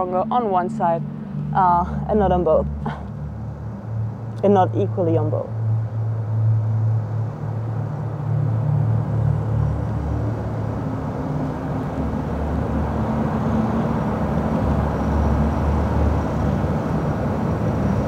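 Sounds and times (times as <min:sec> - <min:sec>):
faint hum: 0:00.0 - 0:18.0
low rumble: 0:00.0 - 0:18.0.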